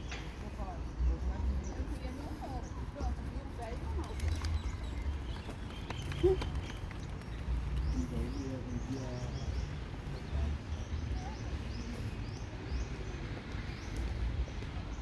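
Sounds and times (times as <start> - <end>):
faint distant voices: 0.0 - 15.0.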